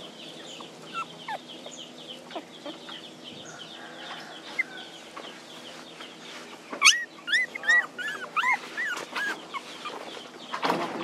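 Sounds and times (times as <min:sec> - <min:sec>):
puppies whimpering and crying: 0:00.0 - 0:03.5, 0:04.1 - 0:10.4.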